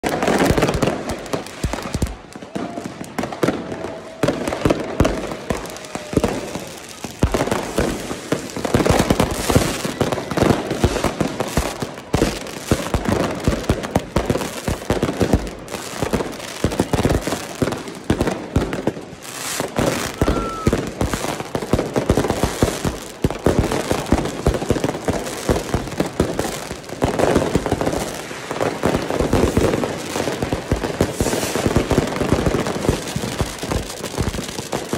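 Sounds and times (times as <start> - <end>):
firecrackers banging and crackling: 0.0 - 34.9.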